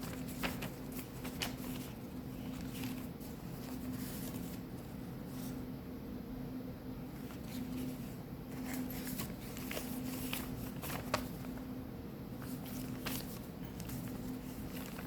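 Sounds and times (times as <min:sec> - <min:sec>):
paper pages rustling: 0:00.0 - 0:05.6, 0:07.1 - 0:11.7, 0:12.3 - 0:15.0.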